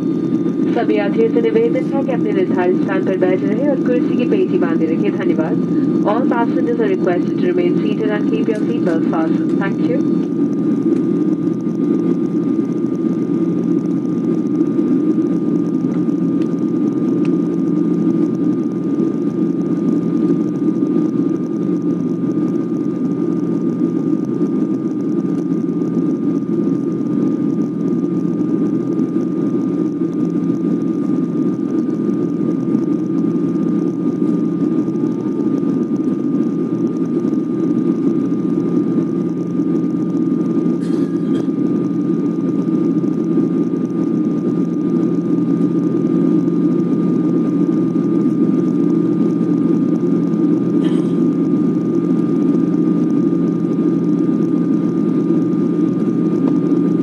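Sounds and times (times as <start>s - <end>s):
faint high whine: 0.0s - 57.0s
jet engine and airflow rush: 0.0s - 57.0s.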